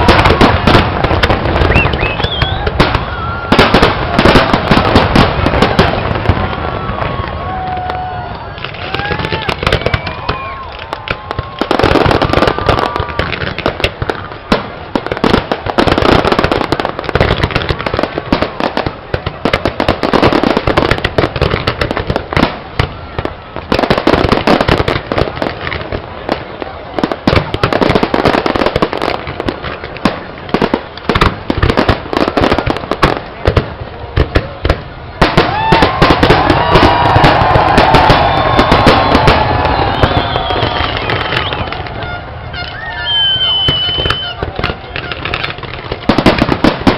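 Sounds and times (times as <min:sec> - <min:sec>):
fireworks whistling: 0:00.0 - 0:25.7, 0:34.4 - 0:46.9
fireworks crackling and banging: 0:00.0 - 0:46.9.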